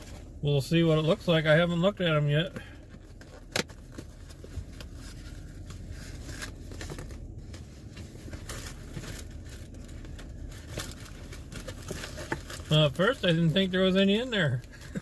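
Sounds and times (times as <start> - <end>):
low steady hum: 0.0 - 15.0
cardboard and paper rustling: 2.9 - 15.0.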